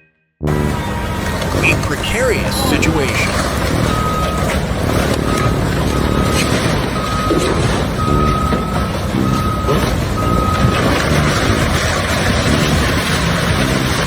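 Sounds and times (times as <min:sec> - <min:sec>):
reversing alarm beeping: 0:00.4 - 0:14.0
vehicle engine running: 0:00.4 - 0:14.0.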